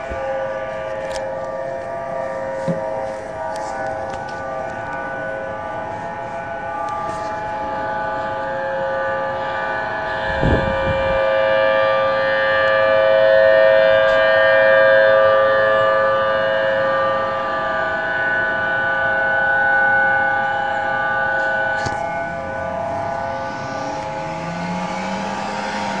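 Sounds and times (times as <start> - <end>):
warning sirens: 0.0 - 26.0.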